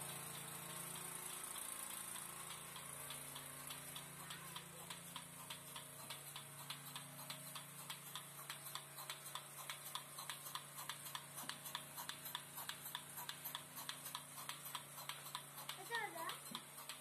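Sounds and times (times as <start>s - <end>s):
milking pulsator clicking: 0.0s - 17.0s
vacuum pump humming: 0.0s - 17.0s.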